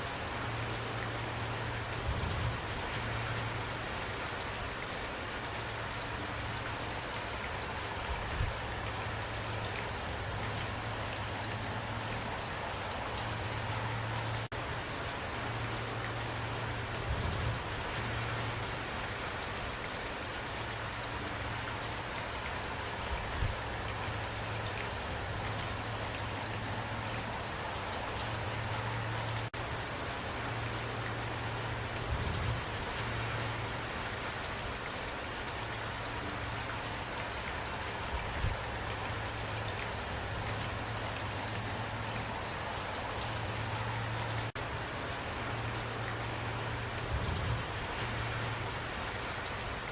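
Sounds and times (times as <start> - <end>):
steady rain patter: 0.0 - 49.9.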